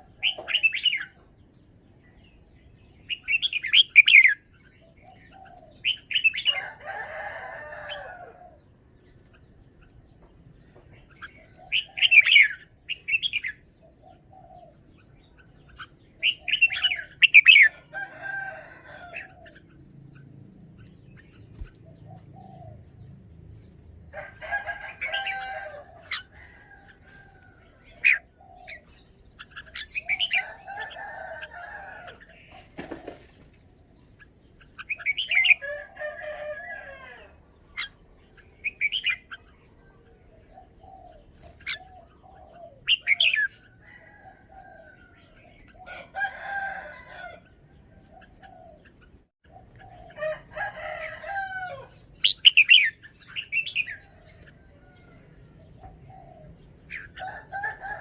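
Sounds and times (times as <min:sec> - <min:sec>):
bird singing warbled phrases: 0:00.0 - 0:58.0.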